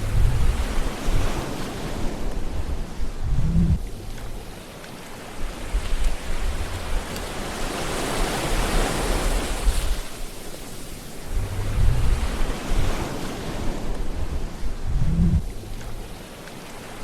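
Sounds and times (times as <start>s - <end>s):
low rumble of surf: 0.0s - 17.0s
wave washing in: 0.0s - 17.0s.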